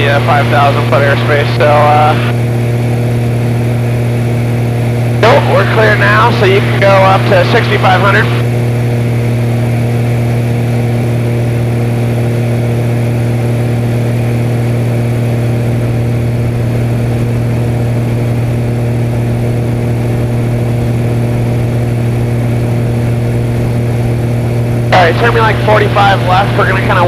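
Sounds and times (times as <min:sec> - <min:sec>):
propeller plane engine droning: 0:00.0 - 0:27.0.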